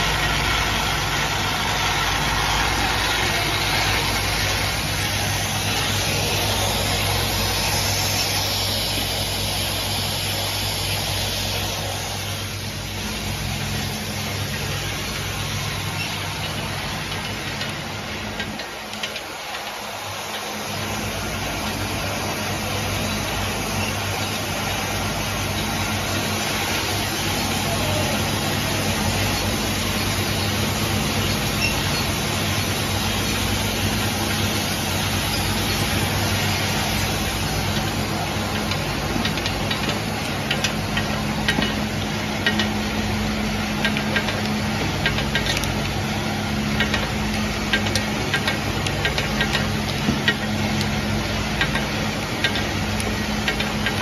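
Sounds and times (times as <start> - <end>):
light mechanical clicks and clatter: 0.0 - 54.0
machine humming with hiss: 0.0 - 54.0.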